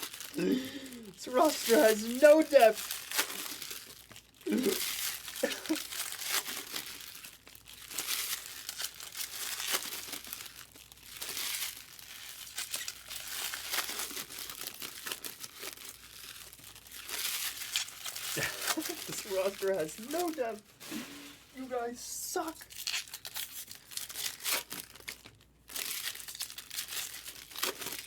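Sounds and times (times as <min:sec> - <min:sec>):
foil wrappers crinkling and tearing: 0:00.0 - 0:28.0.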